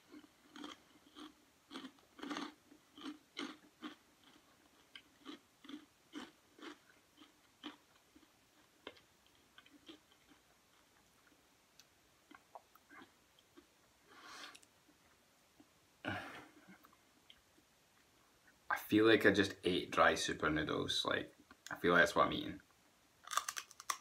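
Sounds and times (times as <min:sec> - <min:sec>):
faint crunchy chewing: 0:00.0 - 0:18.7, 0:23.2 - 0:24.0.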